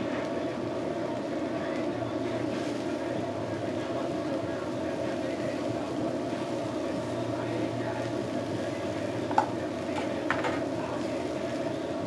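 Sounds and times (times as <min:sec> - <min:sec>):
grill sizzling: 0:00.0 - 0:12.0.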